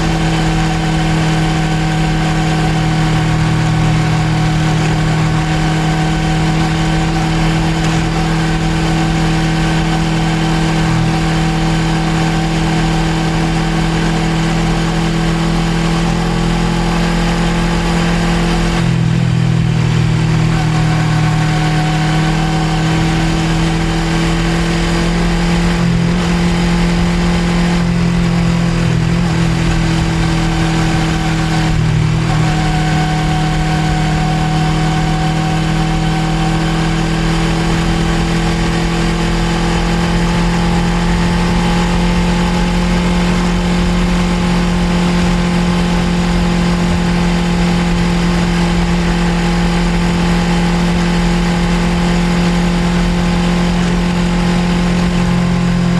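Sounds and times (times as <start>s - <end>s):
constant rushing noise: 0.0s - 55.9s
motorcycle engine running: 0.0s - 55.9s.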